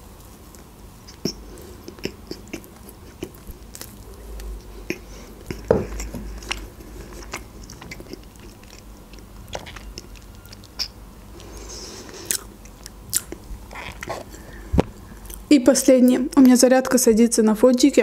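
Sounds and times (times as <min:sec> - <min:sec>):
mouth chewing sponge cake: 0:00.0 - 0:17.0.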